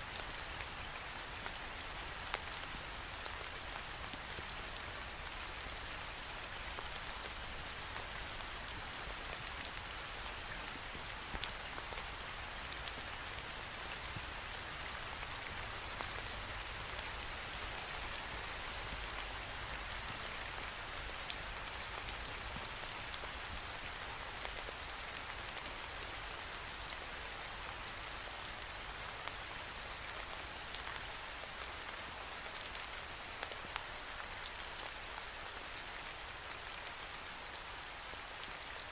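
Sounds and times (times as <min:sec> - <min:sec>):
rain on a window pane: 0:00.0 - 0:38.9.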